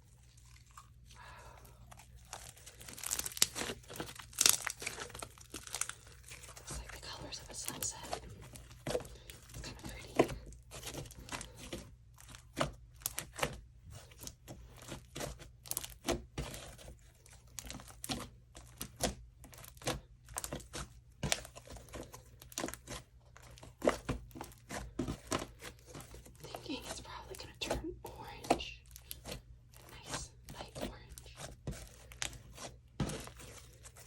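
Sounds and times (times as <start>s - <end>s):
slime squishing: 0.0s - 34.0s.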